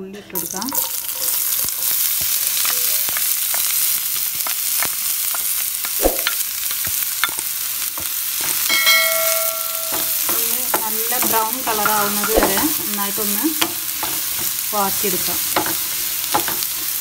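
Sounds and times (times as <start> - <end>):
onions sizzling in oil: 0.3 - 17.0.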